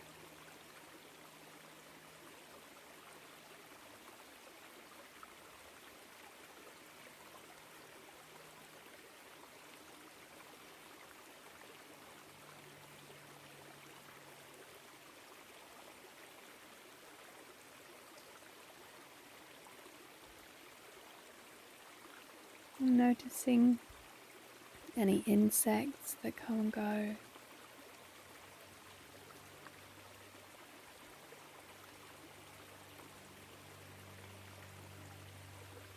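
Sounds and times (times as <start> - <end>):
stream trickling over rocks: 0.0 - 35.9.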